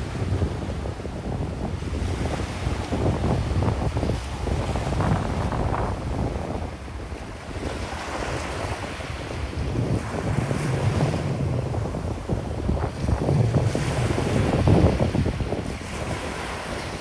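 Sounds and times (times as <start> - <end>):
ocean waves breaking on beach: 0.0 - 17.0
wind buffeting microphone: 0.0 - 17.0.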